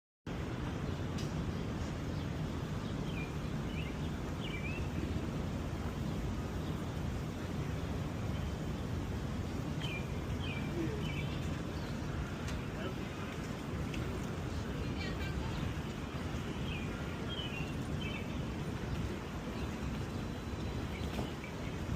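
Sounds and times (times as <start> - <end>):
city street rumble: 0.3 - 21.9
small birds chirping: 0.8 - 21.9.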